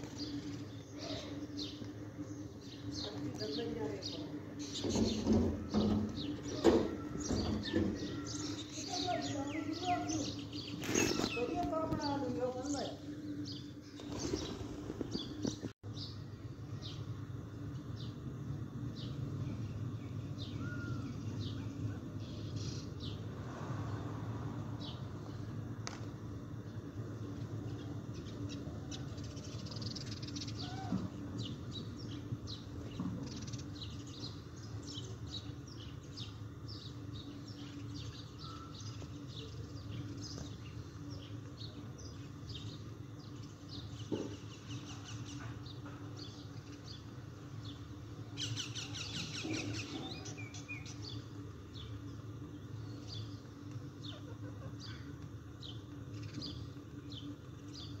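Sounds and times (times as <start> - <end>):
birds chirping: 0.0 - 58.0
steady low hum: 0.0 - 58.0.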